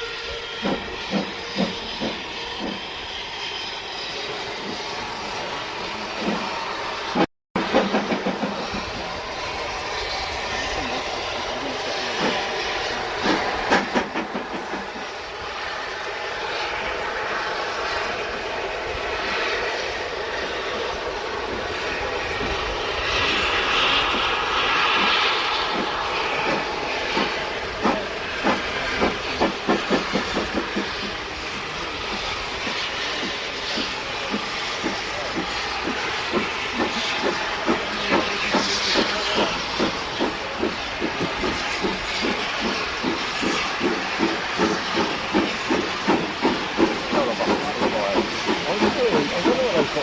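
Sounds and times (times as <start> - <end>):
steady hiss of steam: 0.0 - 50.0
steam locomotive running: 0.0 - 50.0.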